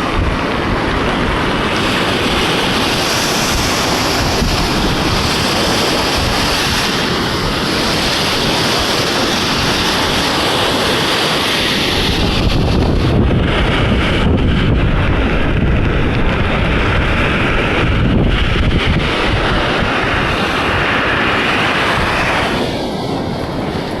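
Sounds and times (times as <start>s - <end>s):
waves washing onto shore: 0.0s - 24.0s
wind buffeting microphone: 0.0s - 24.0s.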